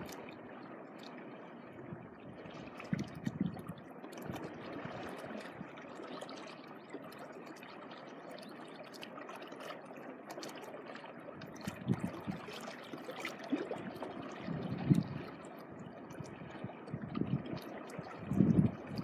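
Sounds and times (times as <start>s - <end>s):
small waves lapping on shore: 0.0s - 19.0s.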